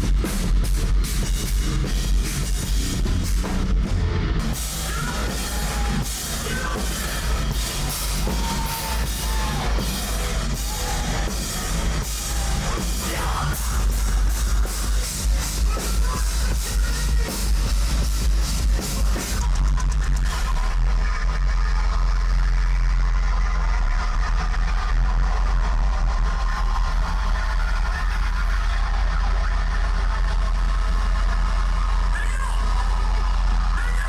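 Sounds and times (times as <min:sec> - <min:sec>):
heavy metal music: 0:00.0 - 0:34.0.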